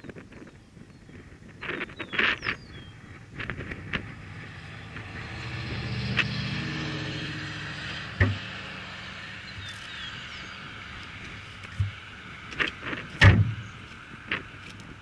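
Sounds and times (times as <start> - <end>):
vehicle engine running: 2.4 - 15.0.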